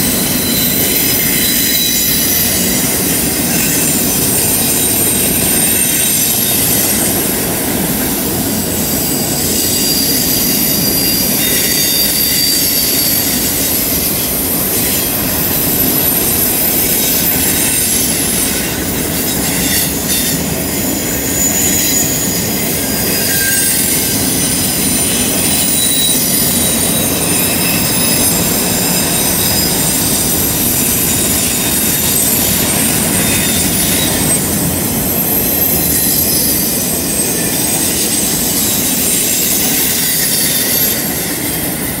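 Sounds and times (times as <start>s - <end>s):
train wheels rumbling on rails: 0.0s - 42.0s
wheel flanges squealing: 0.0s - 42.0s.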